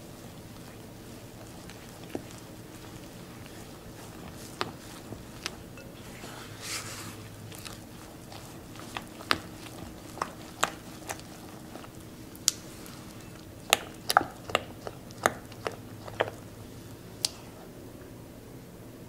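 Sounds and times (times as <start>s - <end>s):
spatula stirring thick batter: 0.0s - 17.7s.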